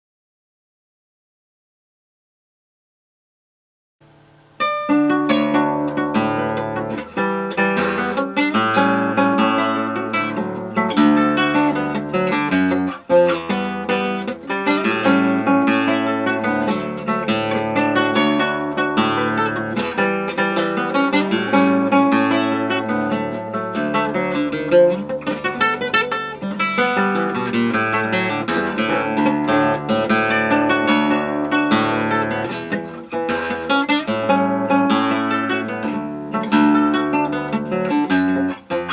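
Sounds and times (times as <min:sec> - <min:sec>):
acoustic guitar playing: 0:04.0 - 0:38.9.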